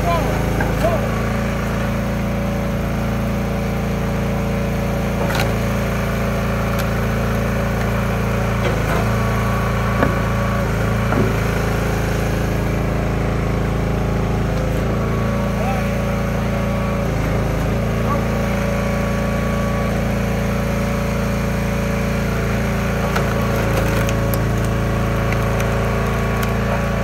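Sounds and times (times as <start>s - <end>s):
small gasoline engine running: 0.0s - 27.0s.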